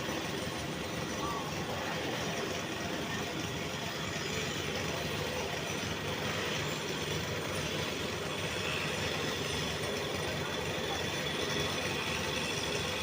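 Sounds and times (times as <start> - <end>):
heavy engine droning: 0.0 - 13.0.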